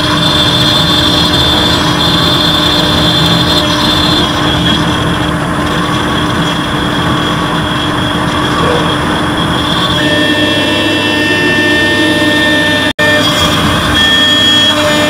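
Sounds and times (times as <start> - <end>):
router cutting metal with high whine: 0.0 - 15.0.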